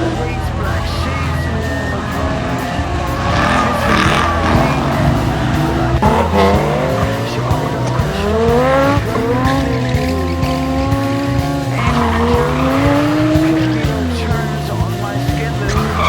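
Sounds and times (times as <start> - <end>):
car engine revving hard: 0.0 - 16.0
music with steady bass line: 0.0 - 16.0
tyres squealing: 0.0 - 16.0.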